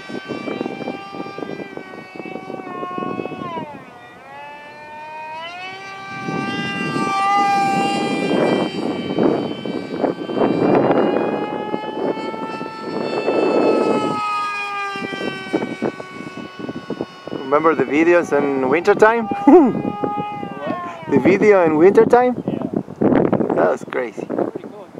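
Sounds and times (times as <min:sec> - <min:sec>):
electric motor whining: 0:00.0 - 0:23.6.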